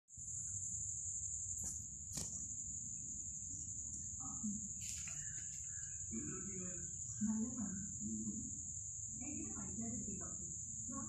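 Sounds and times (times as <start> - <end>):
high-pitched insect trill: 0.1 - 11.0.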